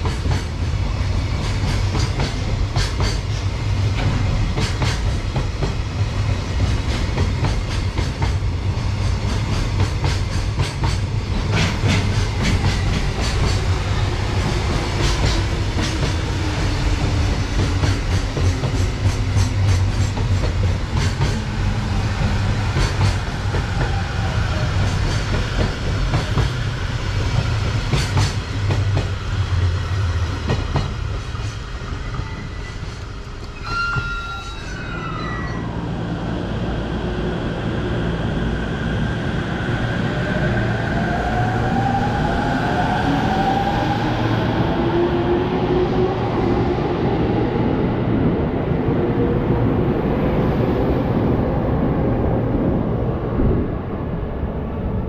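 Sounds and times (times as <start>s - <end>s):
commuter train running past: 0.0s - 55.0s.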